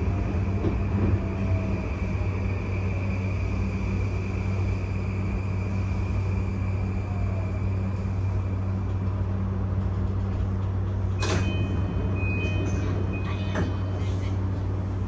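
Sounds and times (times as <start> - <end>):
train electrical hum: 0.0 - 15.0.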